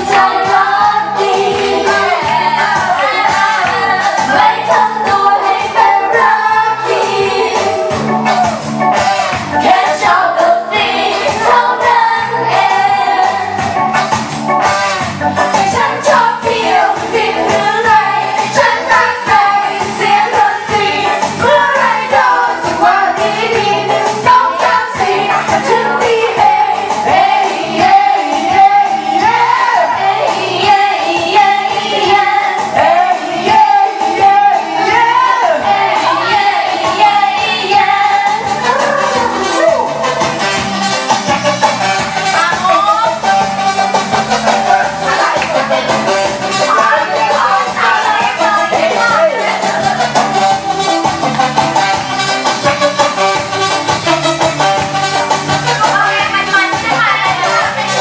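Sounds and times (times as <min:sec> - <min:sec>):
pop music with singing: 0:00.0 - 0:58.0.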